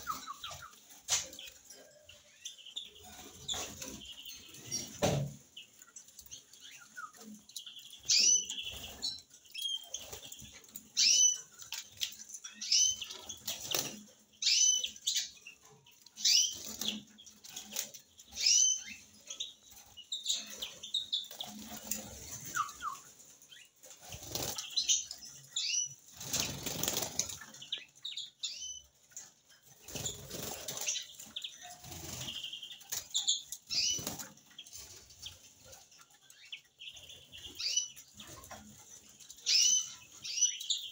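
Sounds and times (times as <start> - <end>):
birds fluttering wings in cage: 0.0 - 40.9.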